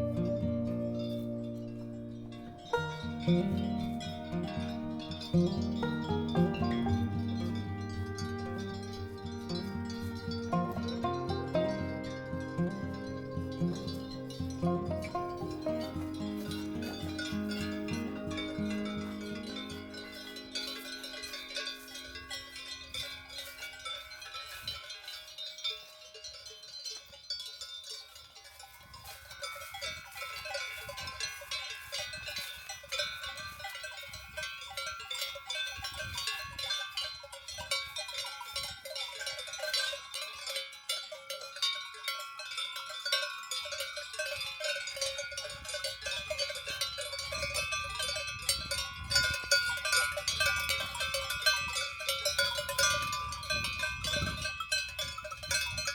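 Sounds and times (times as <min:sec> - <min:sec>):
cow bells clanking: 0:00.0 - 0:55.9.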